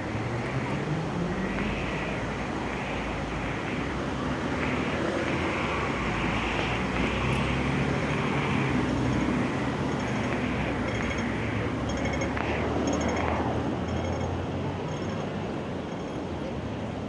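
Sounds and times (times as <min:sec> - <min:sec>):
low engine hum: 0:00.0 - 0:13.8
tyre and road noise: 0:00.0 - 0:17.0.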